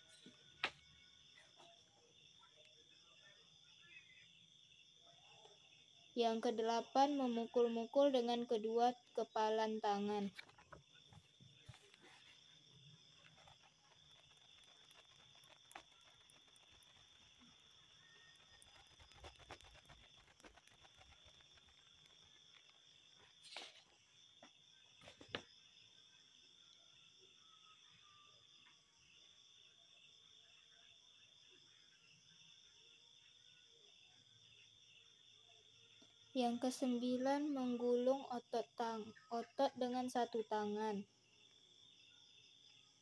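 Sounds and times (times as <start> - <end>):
crickets trilling: 0.0 - 43.0
insects chirring: 0.0 - 43.0.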